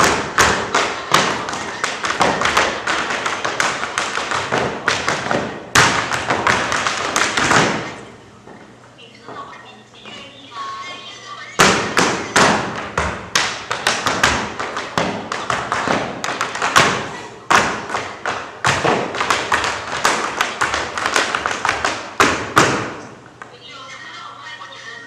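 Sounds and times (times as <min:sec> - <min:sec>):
tap shoes on wooden floor: 0:00.0 - 0:10.9, 0:11.6 - 0:23.6.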